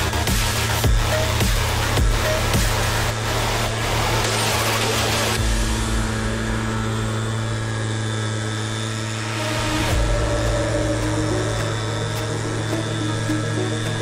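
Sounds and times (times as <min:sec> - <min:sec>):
leaf blower engine running: 0:00.0 - 0:14.0.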